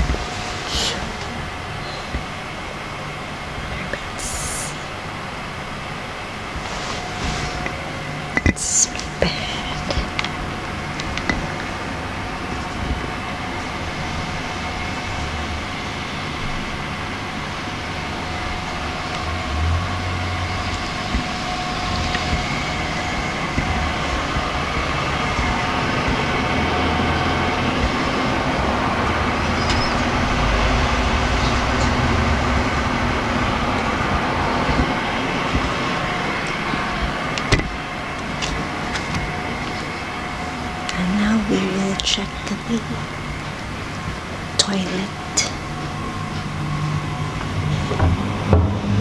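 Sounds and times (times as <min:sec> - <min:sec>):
faint constant tones: 0:00.0 - 0:49.0
low rumble: 0:00.0 - 0:49.0
mechanical hum and hiss: 0:00.0 - 0:49.0.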